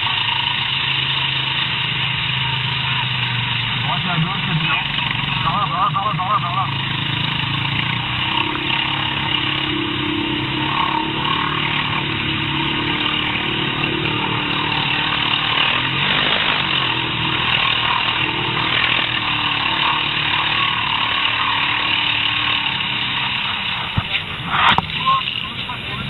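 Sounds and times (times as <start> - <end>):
quad bike engine revving: 0.0 - 26.0.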